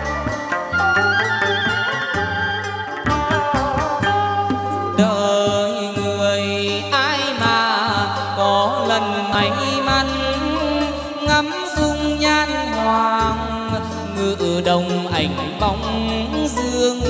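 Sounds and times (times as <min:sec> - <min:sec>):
ritual music ensemble: 0:00.0 - 0:17.0.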